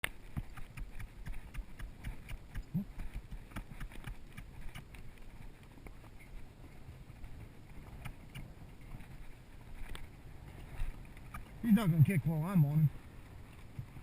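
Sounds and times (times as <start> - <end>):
horse hooves on rocky ground: 0.0 - 14.0.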